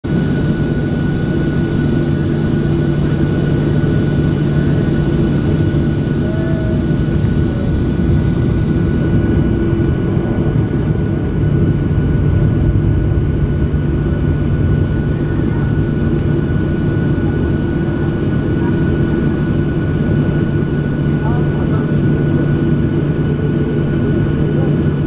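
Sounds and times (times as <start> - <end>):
jet engines idling: 0.1 - 25.0.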